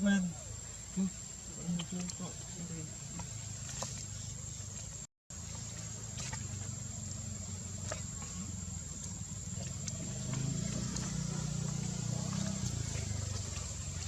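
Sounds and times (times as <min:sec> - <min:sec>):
low engine-like hum: 0:00.3 - 0:14.0.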